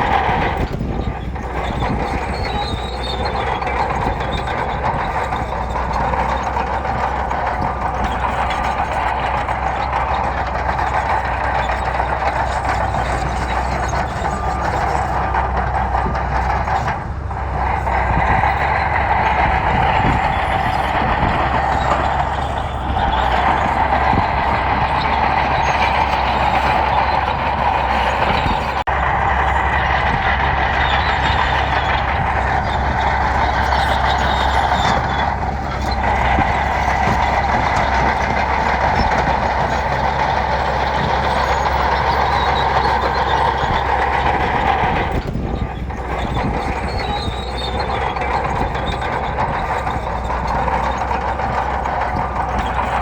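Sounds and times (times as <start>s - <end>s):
diesel machinery rumbling: 0.0s - 53.0s.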